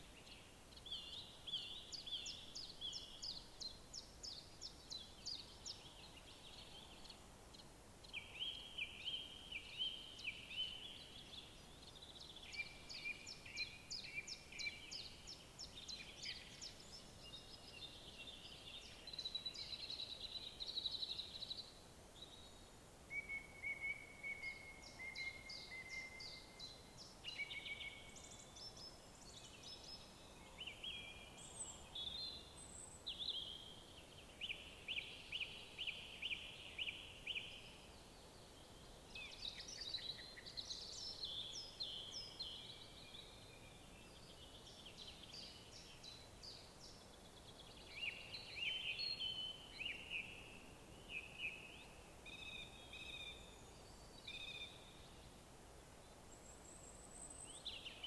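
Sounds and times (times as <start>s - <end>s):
faint steady hiss: 0.0s - 58.0s
songbirds singing: 0.0s - 58.0s.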